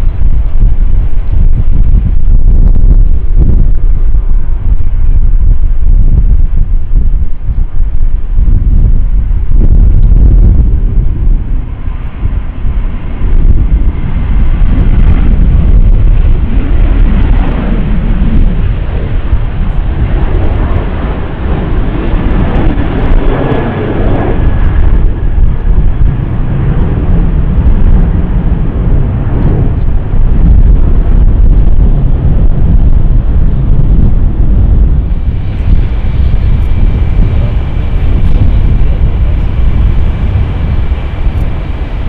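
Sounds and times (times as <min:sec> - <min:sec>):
jet engines at takeoff: 0:00.0 - 0:42.0
wind buffeting microphone: 0:00.0 - 0:42.0.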